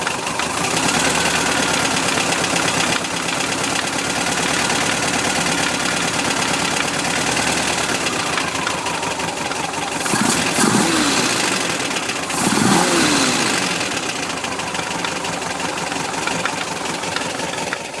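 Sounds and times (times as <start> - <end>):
engine idling and revving: 0.0 - 18.0
engine knocking: 0.0 - 18.0.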